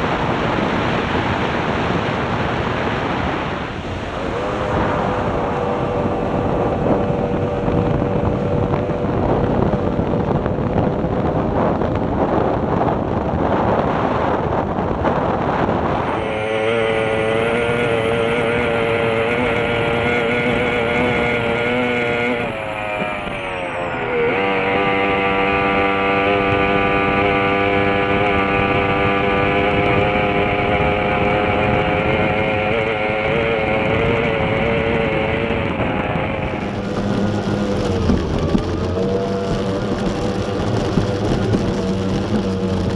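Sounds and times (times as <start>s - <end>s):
rushing water: 0.0s - 11.0s, 15.7s - 42.9s
outboard engine at high revs: 0.0s - 42.9s
rushing wind: 0.0s - 42.9s.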